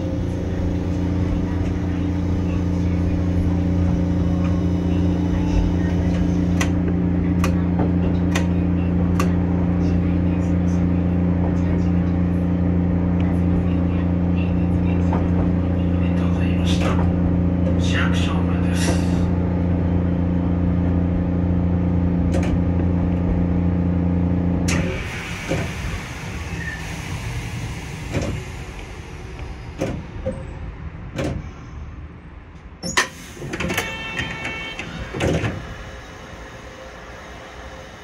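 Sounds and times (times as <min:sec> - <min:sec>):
tram hum: 0:00.0 - 0:38.0.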